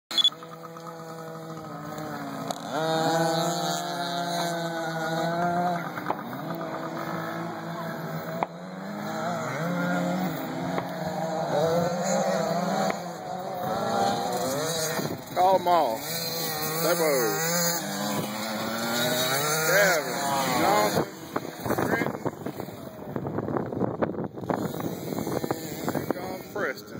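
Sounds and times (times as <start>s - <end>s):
dirt bike engines revving: 0.1s - 26.9s.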